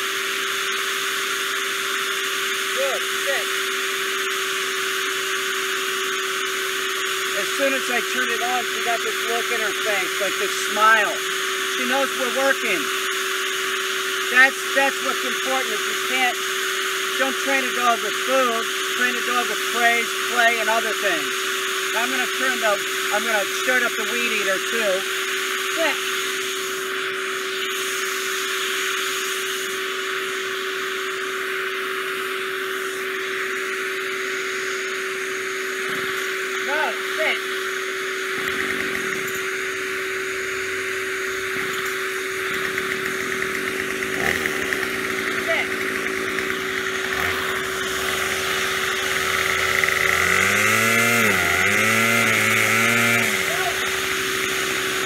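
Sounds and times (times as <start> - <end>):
string trimmer engine revving: 0.0 - 55.0
vacuum cleaner running: 0.0 - 55.0.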